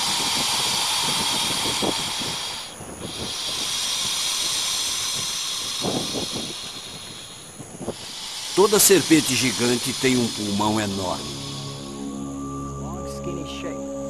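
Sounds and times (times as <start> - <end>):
snake hissing breaths: 0.0 - 12.7.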